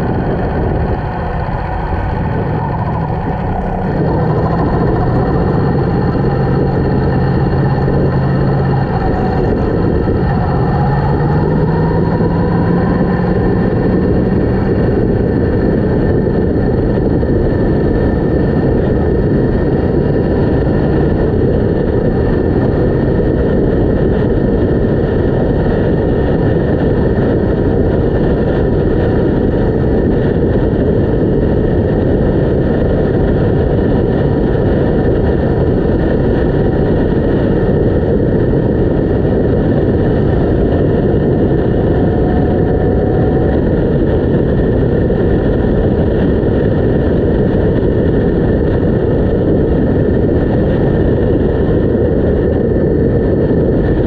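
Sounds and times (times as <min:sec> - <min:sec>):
motorcycle engine running: 0:00.0 - 0:54.0
wind noise over microphone: 0:00.0 - 0:54.0.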